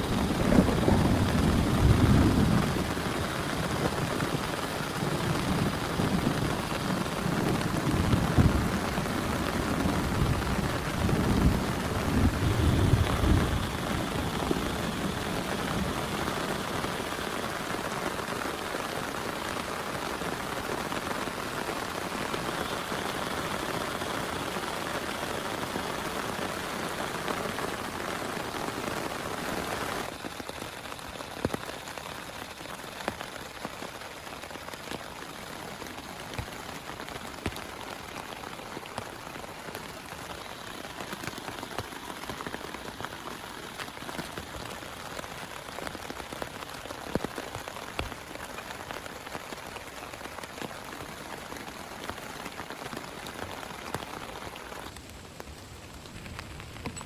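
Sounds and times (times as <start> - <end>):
raindrops ticking sharply: 0.0 - 57.0
steady rain falling: 0.0 - 57.0.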